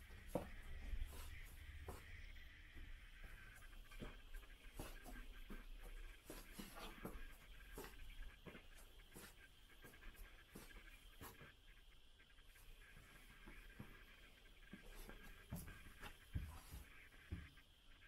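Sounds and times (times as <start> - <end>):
faint footsteps: 0.0 - 11.7, 12.4 - 17.6
low room hum: 0.0 - 18.0.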